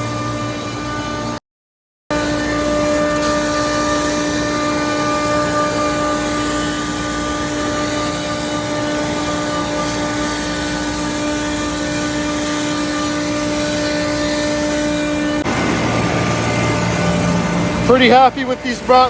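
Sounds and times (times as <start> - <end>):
chiller unit humming: 3.0 - 19.0.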